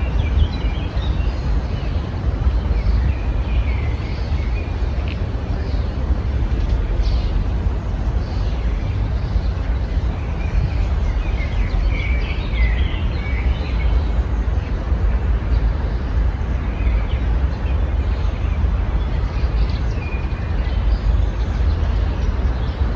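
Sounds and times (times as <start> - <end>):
songbirds chirping and trilling: 0.0 - 22.9.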